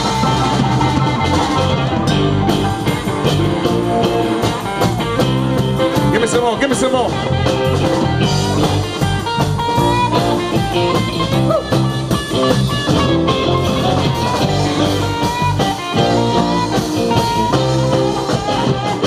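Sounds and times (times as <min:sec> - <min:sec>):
live band with electric guitars: 0:00.0 - 0:19.0.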